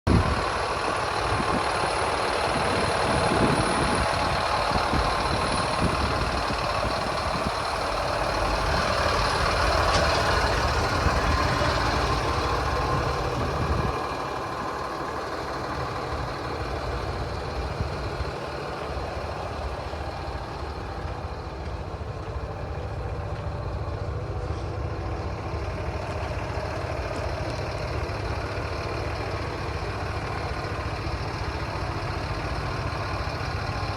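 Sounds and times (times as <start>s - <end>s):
diesel truck engine idling: 0.1s - 33.9s.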